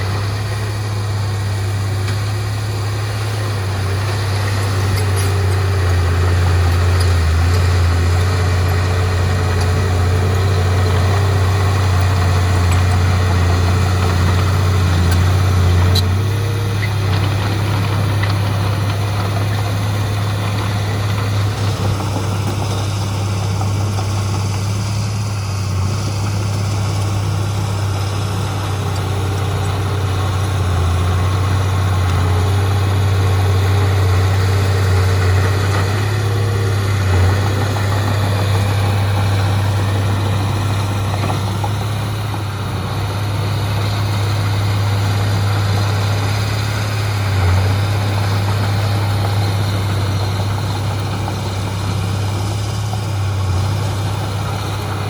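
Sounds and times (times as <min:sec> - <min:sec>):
heavy diesel engine hum: 0:00.0 - 0:55.0.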